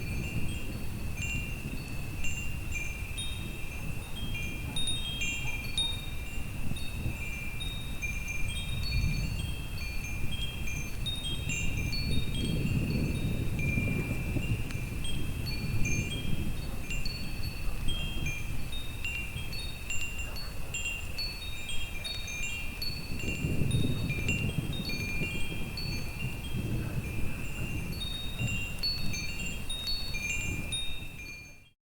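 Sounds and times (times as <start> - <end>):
wind chimes ringing: 0.0 - 31.8.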